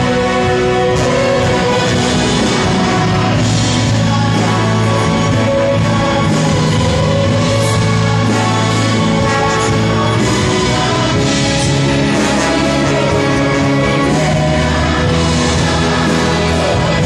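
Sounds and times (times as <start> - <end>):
orchestra playing sustained chords: 0.0 - 17.0.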